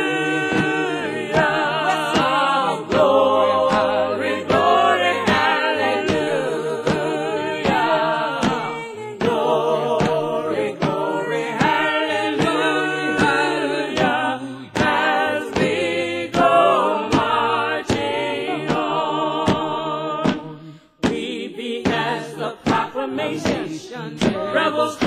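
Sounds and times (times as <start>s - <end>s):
sharp steady beat: 0.0s - 24.6s
choir singing a cappella: 0.0s - 25.0s.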